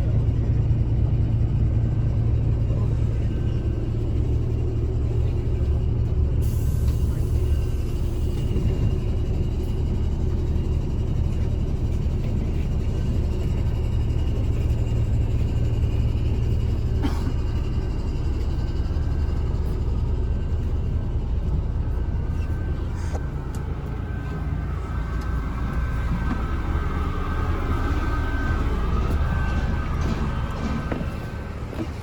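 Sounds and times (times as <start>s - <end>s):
bus diesel engine and road rumble: 0.0s - 32.0s.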